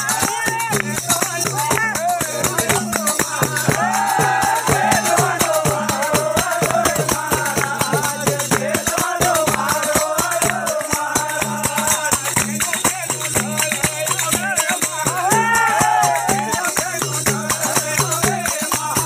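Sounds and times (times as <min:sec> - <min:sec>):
hand drum beating: 0:00.0 - 0:19.0
jingling hand percussion: 0:00.0 - 0:19.0
man singing: 0:00.0 - 0:19.0.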